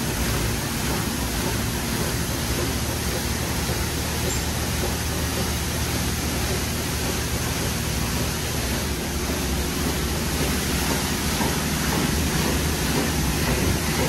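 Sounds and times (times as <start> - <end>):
high-pressure water spray hissing: 0.0 - 14.0.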